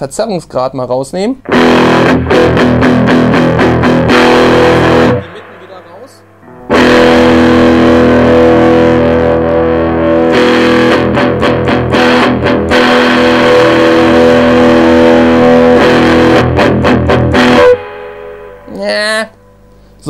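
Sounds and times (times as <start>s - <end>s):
electric guitar chords: 1.4s - 20.0s.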